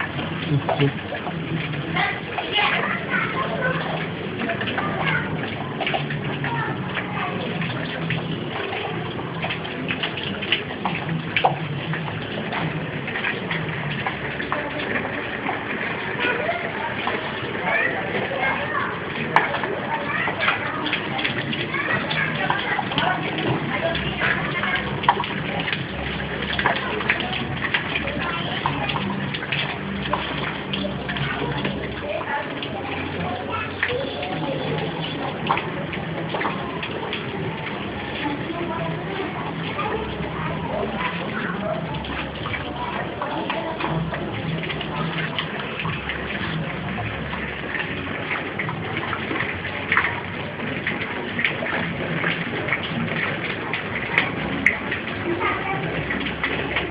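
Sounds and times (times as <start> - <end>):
babble of voices: 0.0 - 56.9
water pouring: 0.0 - 56.9
water splashing: 0.0 - 56.9.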